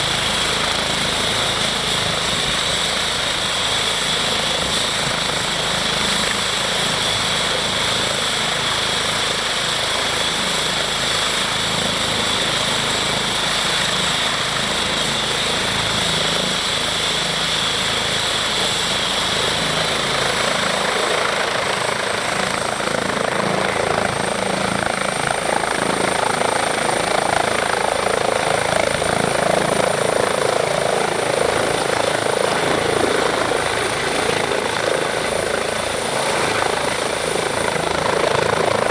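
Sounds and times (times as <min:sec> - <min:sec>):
helicopter rotor beating: 0:00.0 - 0:38.9
helicopter turbine whine: 0:00.0 - 0:38.9.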